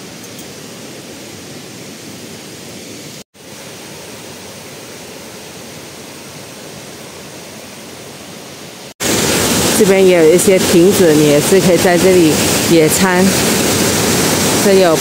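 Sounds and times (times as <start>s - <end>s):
waterfall rushing over rock: 0.0s - 15.0s.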